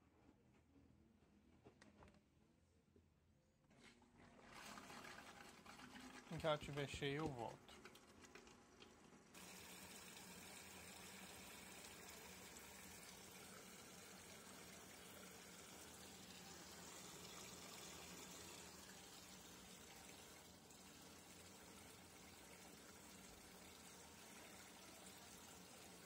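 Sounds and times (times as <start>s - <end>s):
water pouring into washing machine: 4.3s - 26.0s.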